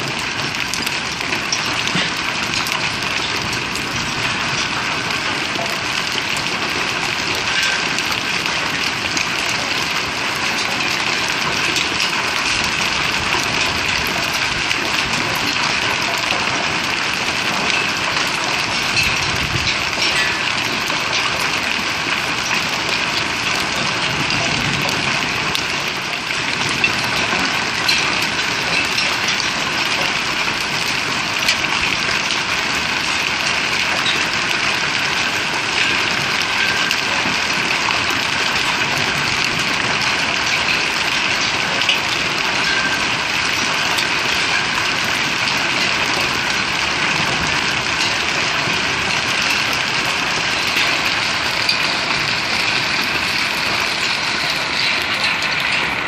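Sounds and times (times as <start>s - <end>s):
hailstones hitting the ground: 0.0s - 56.0s.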